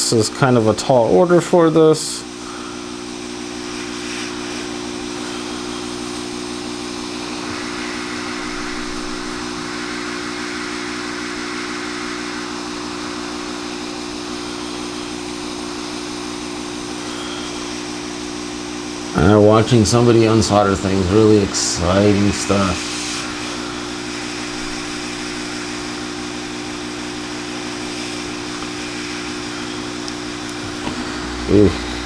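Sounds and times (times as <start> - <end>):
hot air blower hissing: 0.0 - 32.0
low steady hum: 2.2 - 32.0.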